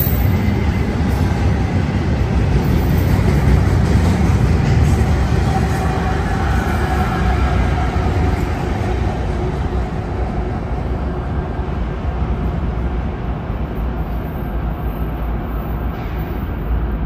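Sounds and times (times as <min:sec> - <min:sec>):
diesel locomotive engine rumble: 0:00.0 - 0:17.0
train wheels on rails: 0:00.0 - 0:17.0.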